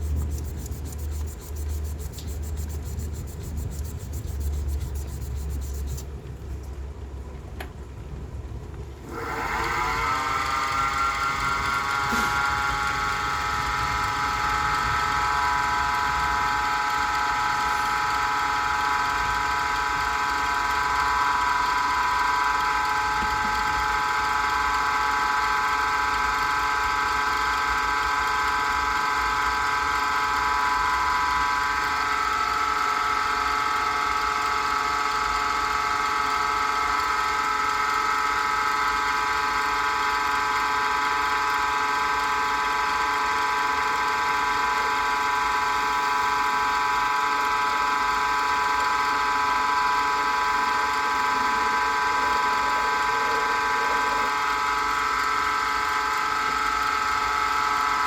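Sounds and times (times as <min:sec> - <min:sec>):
wood lathe motor whine: 0:00.0 - 0:06.0, 0:09.0 - 0:58.0.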